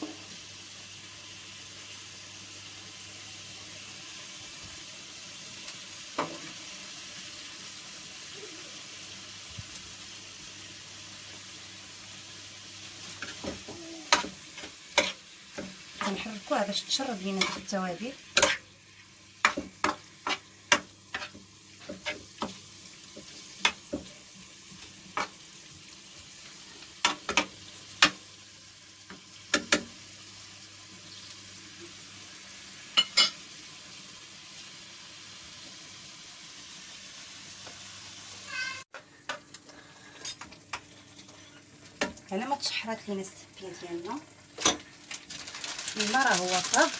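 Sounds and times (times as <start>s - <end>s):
food sizzling in oil: 0.0s - 46.9s.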